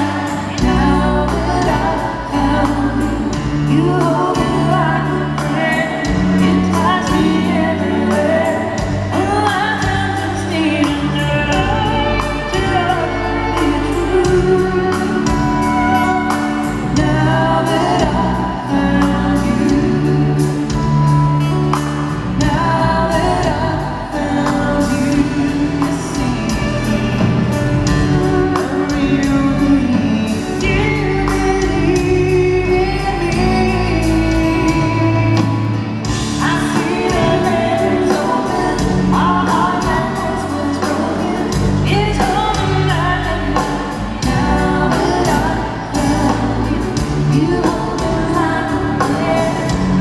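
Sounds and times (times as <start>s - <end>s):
woman singing country music: 0.0s - 50.0s.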